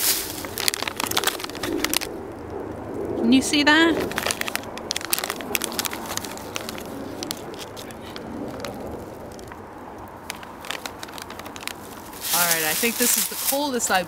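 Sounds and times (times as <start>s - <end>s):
plastic snack bag crinkling: 0.0s - 2.5s, 3.8s - 14.0s.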